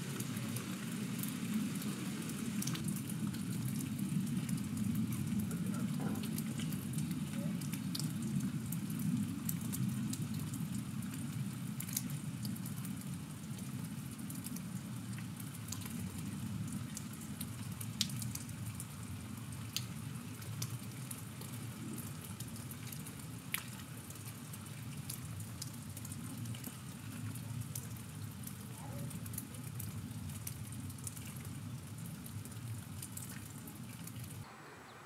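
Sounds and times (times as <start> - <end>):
rain falling: 0.0 - 35.0
sharp raindrop ticks: 0.1 - 34.4.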